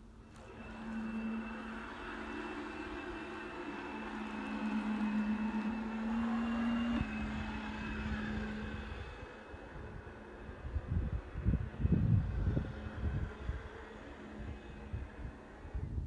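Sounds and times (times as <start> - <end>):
electric motor humming: 0.0 - 16.0.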